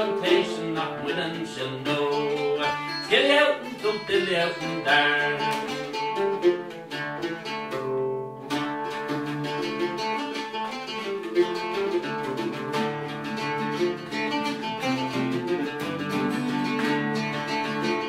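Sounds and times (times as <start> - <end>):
mandolin: 0.0 - 18.0
strummed acoustic guitar: 0.0 - 18.0.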